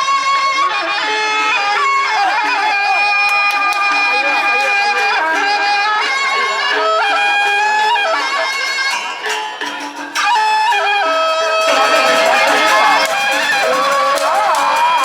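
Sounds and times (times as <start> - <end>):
percussion: 0.0 - 15.0
shrill reed pipe melody: 0.0 - 15.0.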